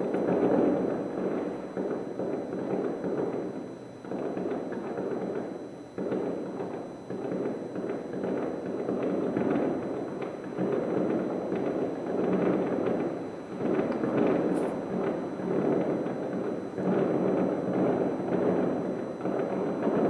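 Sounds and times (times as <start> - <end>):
distant fireworks bangs and crackles: 0.0 - 20.0.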